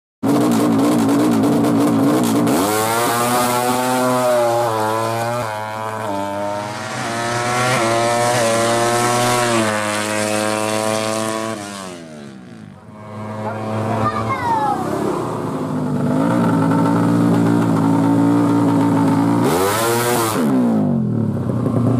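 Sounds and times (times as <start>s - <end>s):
motorcycle engine revving: 0.2s - 21.9s.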